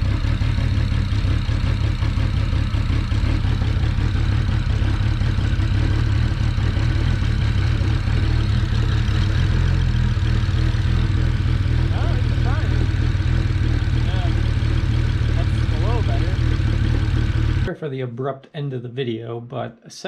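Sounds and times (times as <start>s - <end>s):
car engine idling with misfire: 0.0s - 17.7s.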